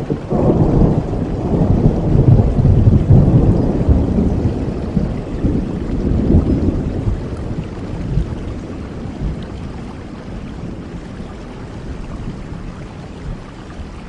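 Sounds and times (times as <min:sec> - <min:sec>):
rolling thunder rumble: 0:00.0 - 0:13.5
rain: 0:00.0 - 0:14.0.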